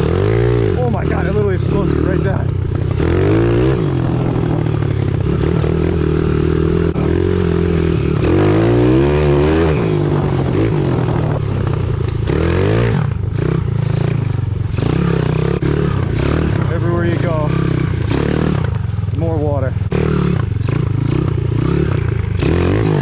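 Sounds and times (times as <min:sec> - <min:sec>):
motorbike engine revving: 0:00.0 - 0:23.0.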